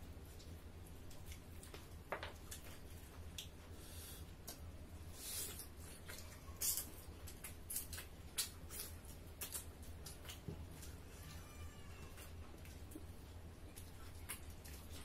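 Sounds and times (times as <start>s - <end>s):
people chewing and lip smacking: 0.0s - 15.0s
steady low hum: 0.0s - 15.0s.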